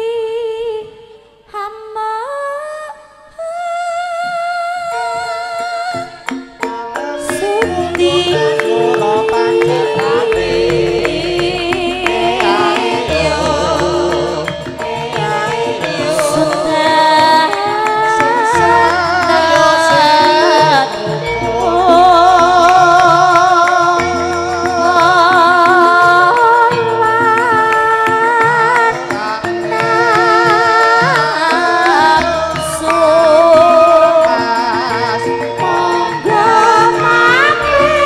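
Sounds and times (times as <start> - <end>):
woman singing with vibrato: 0.0 - 38.0
gamelan ensemble playing: 4.9 - 38.0.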